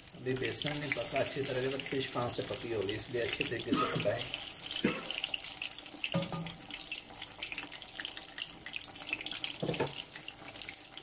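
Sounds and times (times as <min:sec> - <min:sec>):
fish deep-frying in hot oil: 0:00.0 - 0:11.0.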